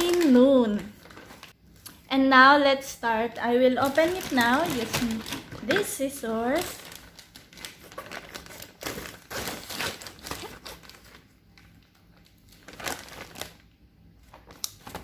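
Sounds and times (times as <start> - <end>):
wrapping crinkling: 0.0 - 1.6, 3.6 - 15.0.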